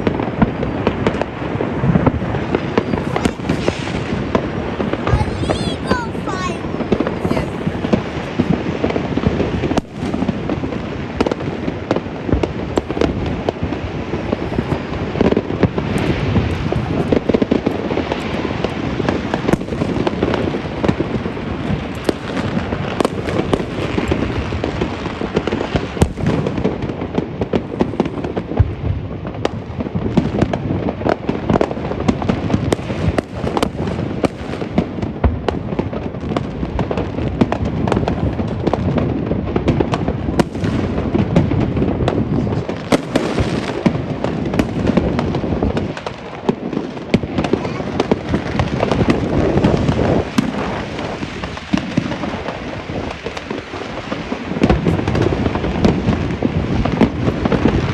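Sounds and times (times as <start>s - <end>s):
fireworks crackling and banging: 0.0s - 57.9s.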